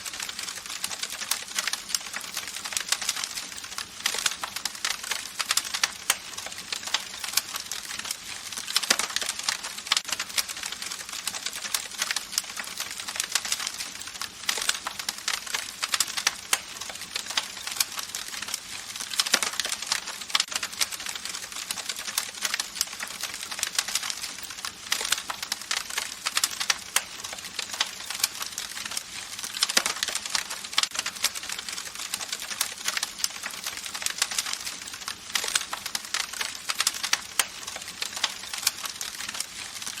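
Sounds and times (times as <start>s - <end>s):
wood crackling and popping: 0.0s - 40.0s.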